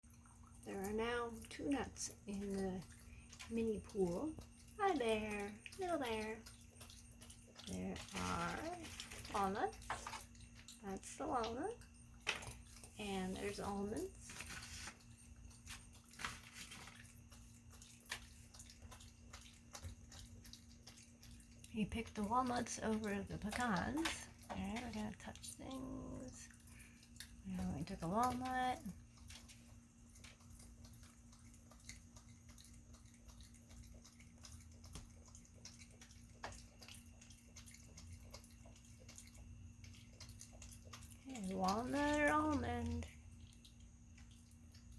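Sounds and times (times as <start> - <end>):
faint water splashing: 0.0 - 44.9.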